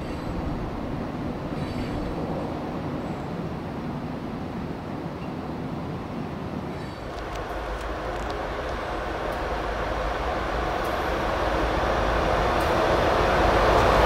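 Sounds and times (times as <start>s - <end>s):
locomotive engine rumble: 0.0s - 14.0s
rail noise: 0.0s - 14.0s.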